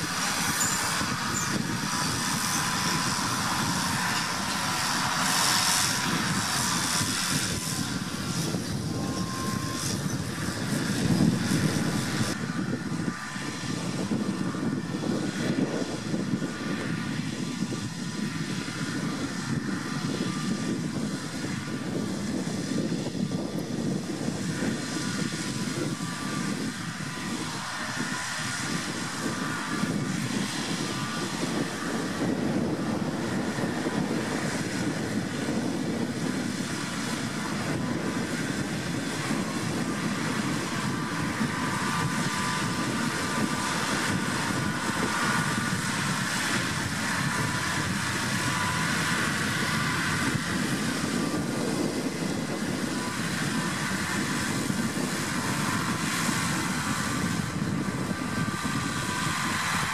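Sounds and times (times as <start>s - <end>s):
faint high whine: 0.0s - 59.9s
tractor diesel engine under load: 0.0s - 59.9s.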